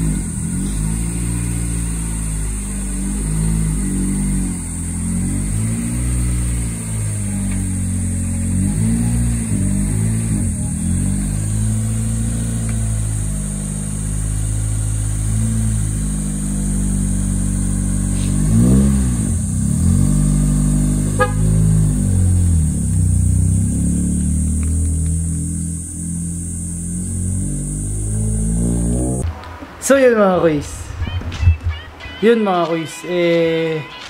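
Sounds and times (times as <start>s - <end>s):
car engine revving: 0.0s - 31.1s.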